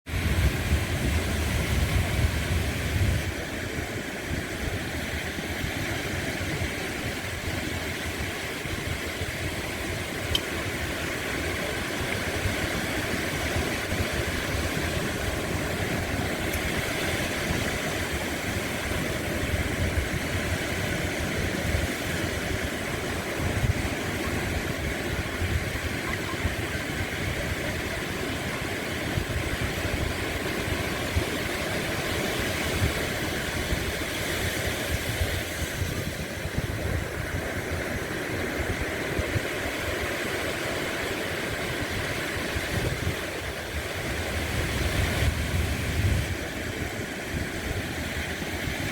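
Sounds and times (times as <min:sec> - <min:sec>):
waves washing onto shore: 0:00.1 - 0:48.9.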